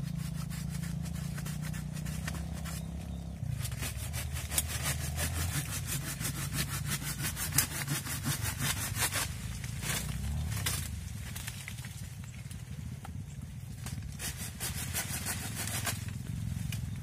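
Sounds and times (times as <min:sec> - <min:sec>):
hand saw cutting branch: 0:00.0 - 0:11.6, 0:13.8 - 0:16.9.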